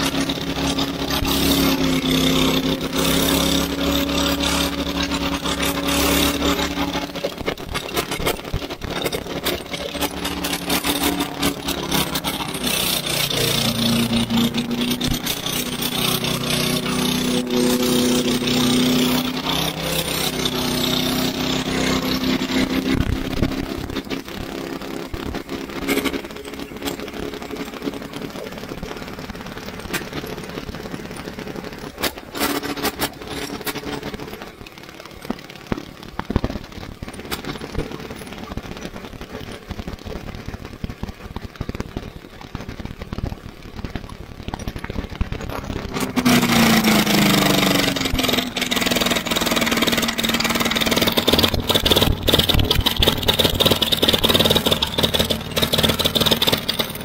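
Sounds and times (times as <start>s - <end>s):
lawnmower engine running: 0.0s - 57.0s.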